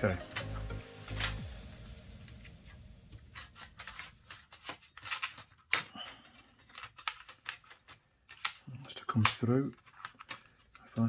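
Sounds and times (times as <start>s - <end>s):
plastic parts clicking and rustling: 0.1s - 1.5s, 2.2s - 11.0s.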